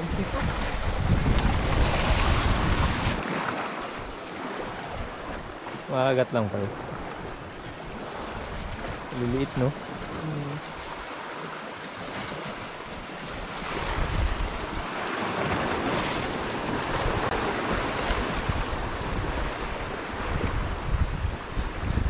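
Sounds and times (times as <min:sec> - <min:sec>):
wind gusting on microphone: 0:00.0 - 0:11.2, 0:12.0 - 0:22.0
surf washing on shore: 0:00.0 - 0:22.0.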